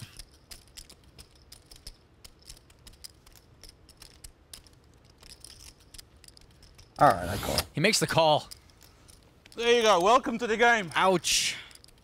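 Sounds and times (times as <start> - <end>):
poker chips clicking: 0.0 - 12.0.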